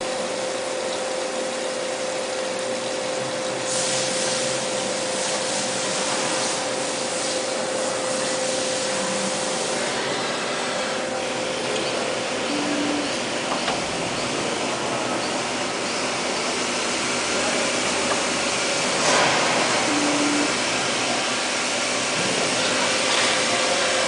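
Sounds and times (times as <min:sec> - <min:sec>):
grinding machine running: 0:00.0 - 0:24.0.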